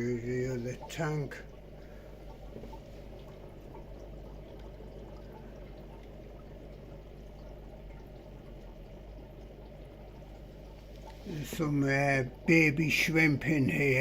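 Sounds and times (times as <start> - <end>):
aquarium water trickling: 0.0 - 14.0
low electric hum: 0.0 - 14.0.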